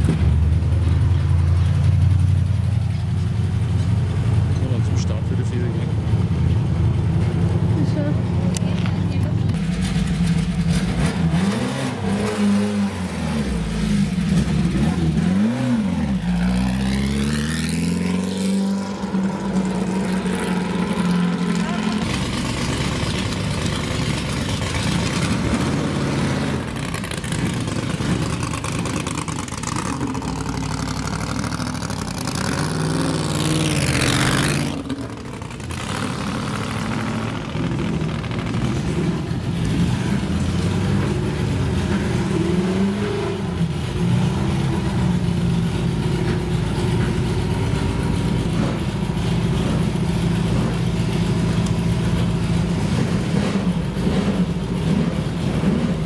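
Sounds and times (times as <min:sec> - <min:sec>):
racing car engines burbling: 0:00.0 - 0:56.0.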